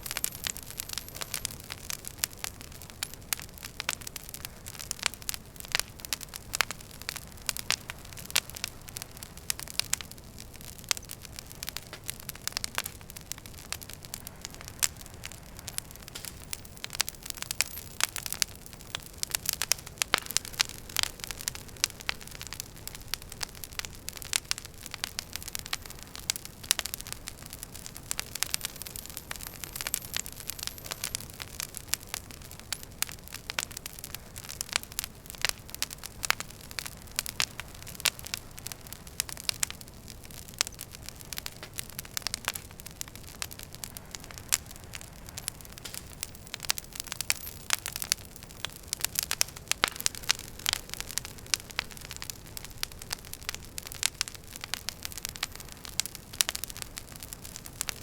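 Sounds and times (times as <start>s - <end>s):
low fire hiss: 0.0s - 58.0s
wood fire crackling: 0.0s - 58.0s.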